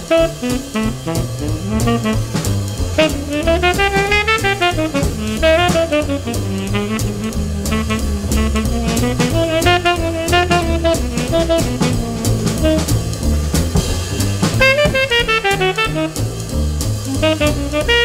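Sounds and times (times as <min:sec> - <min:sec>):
bass: 0:00.0 - 0:18.0
drums: 0:00.0 - 0:18.0
jazz lead melody: 0:00.0 - 0:18.0.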